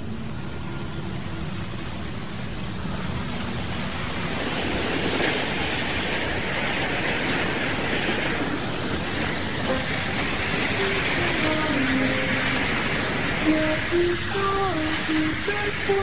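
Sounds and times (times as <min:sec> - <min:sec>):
rushing rumbling drone: 0:00.0 - 0:16.0.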